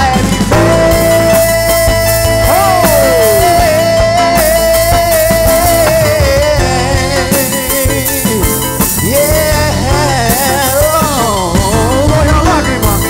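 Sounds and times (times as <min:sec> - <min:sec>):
live band music: 0:00.0 - 0:13.0
wavering lead melody: 0:00.0 - 0:13.0.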